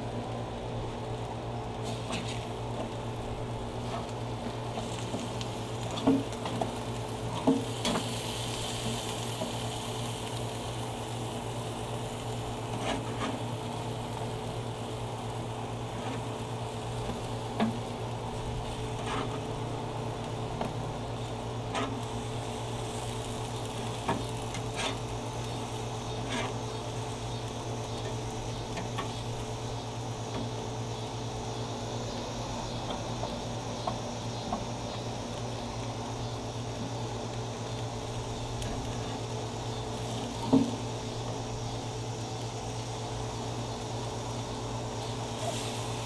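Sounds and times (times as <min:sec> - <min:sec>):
food sizzling on a grill: 0:00.0 - 0:46.0.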